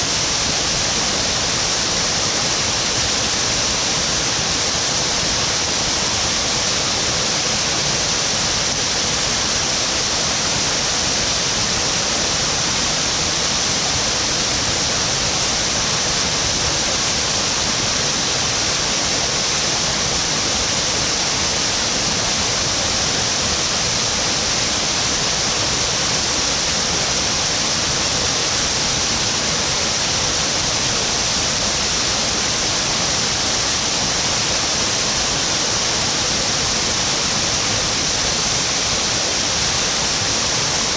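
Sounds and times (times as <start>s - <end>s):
waterfall rushing and splashing: 0.0s - 40.9s.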